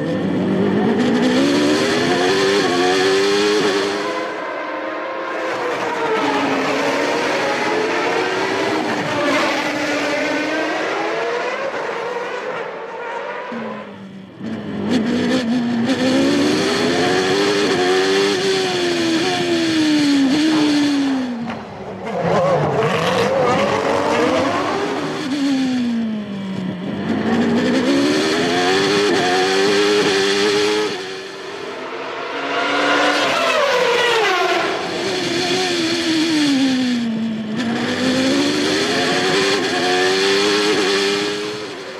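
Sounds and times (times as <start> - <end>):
race car engines accelerating: 0.0 - 41.9.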